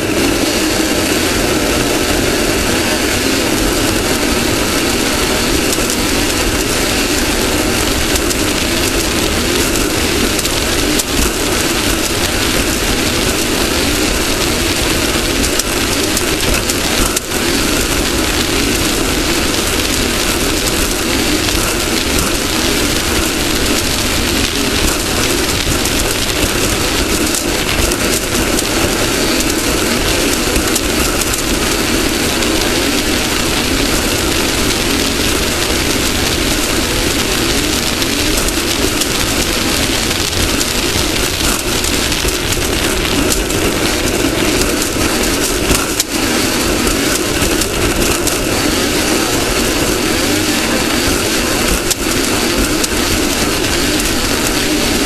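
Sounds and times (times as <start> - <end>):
race car engine and road noise: 0.0 - 55.0.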